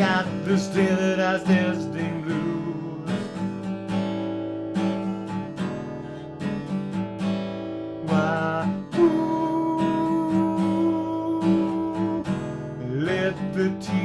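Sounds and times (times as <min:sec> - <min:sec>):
acoustic guitar playing blues: 0:00.0 - 0:14.0.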